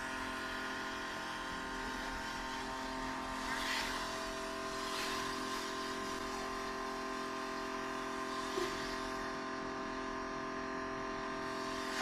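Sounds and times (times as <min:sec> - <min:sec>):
pressure washer humming: 0:00.0 - 0:12.0.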